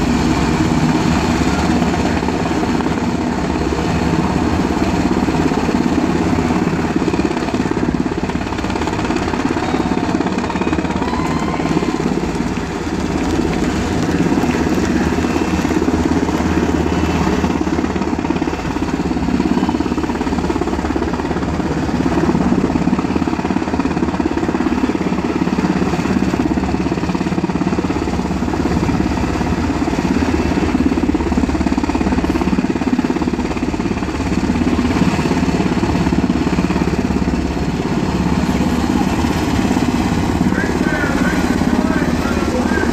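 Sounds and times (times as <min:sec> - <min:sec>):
helicopter rotor and engines: 0:00.0 - 0:42.9.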